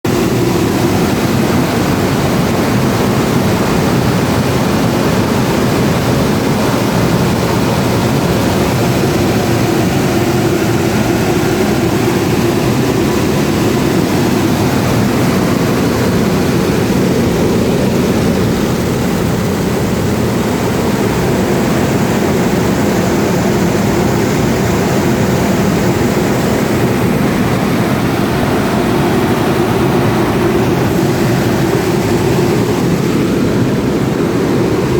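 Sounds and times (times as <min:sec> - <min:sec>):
power generator engine running: 0:00.0 - 0:34.9.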